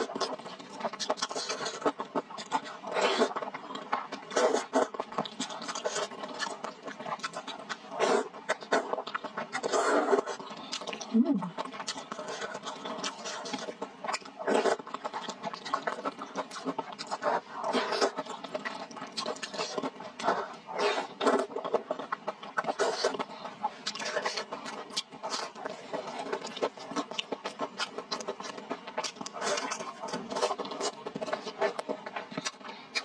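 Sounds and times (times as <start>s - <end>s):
person slurping and chewing noodles: 0.0s - 33.0s.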